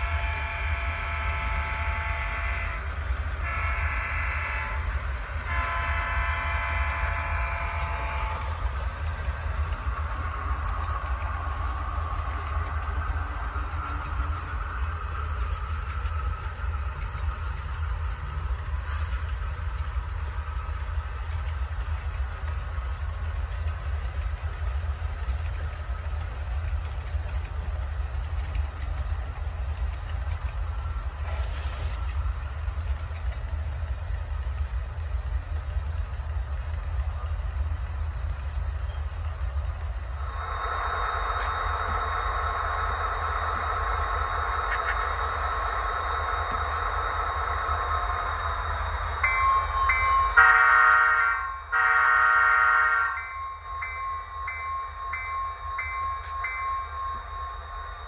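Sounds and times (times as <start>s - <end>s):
model trains rumbling on track: 0.0s - 58.0s.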